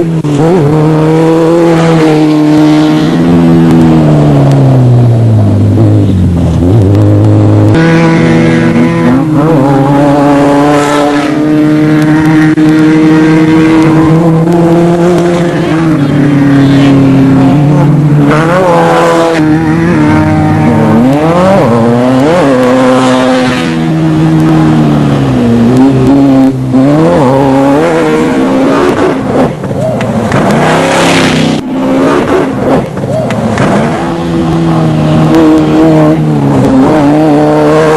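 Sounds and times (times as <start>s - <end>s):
off-road race vehicle engines: 0.0s - 37.9s.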